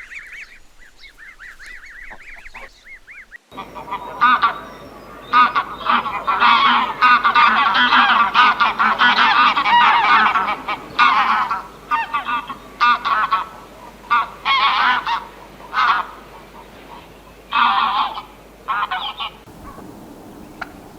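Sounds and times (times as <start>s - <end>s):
geese honking: 0.0s - 20.9s.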